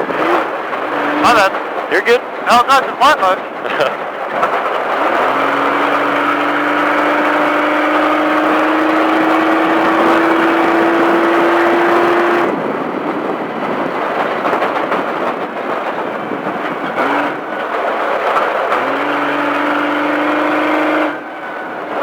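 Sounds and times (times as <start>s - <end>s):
rough rushing noise coasting: 0.0s - 22.0s
truck engine revving: 0.0s - 22.0s.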